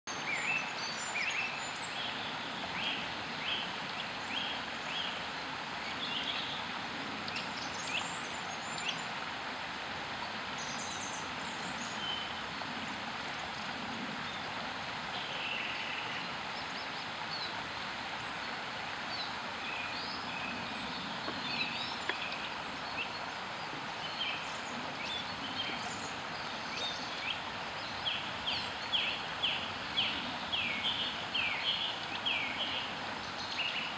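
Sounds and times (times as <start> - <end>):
stream rushing over stones: 0.1 - 33.9.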